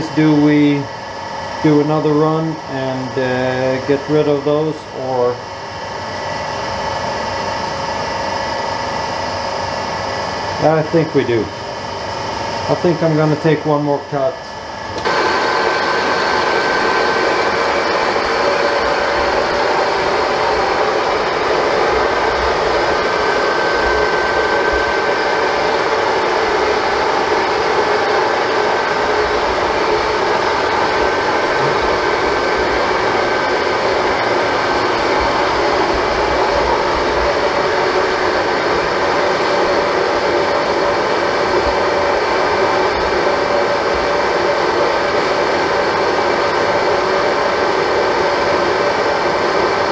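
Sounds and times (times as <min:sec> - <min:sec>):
metal lathe running: 0:00.0 - 0:49.9.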